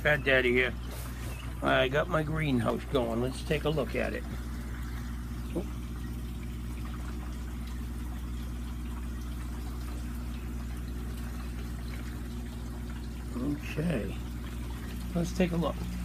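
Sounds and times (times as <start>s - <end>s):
electric pump hum: 0.0s - 16.0s
water trickling and bubbling: 0.0s - 16.0s.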